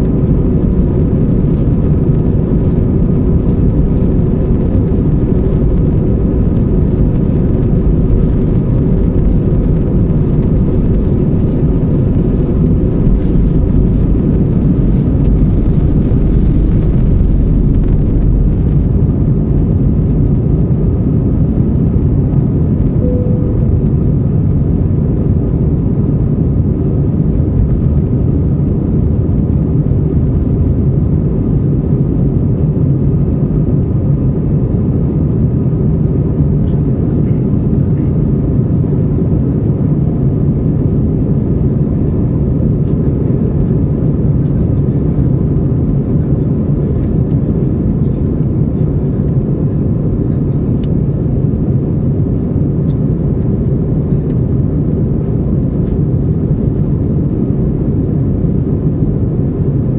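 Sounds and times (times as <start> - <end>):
faint steady whine: 0.0 - 59.9
jet engines rumbling: 0.0 - 59.9.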